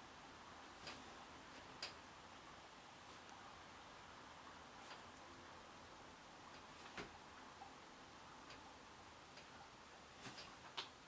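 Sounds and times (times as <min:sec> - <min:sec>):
faint rain hiss: 0:00.0 - 0:11.0.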